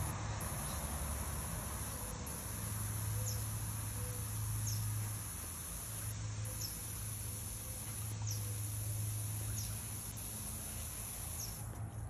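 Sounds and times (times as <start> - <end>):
water spraying over lawn: 0.0 - 11.9.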